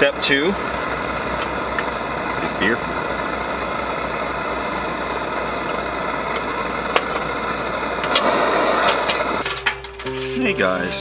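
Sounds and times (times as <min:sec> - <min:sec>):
gas stove burner hissing: 0:00.2 - 0:09.4.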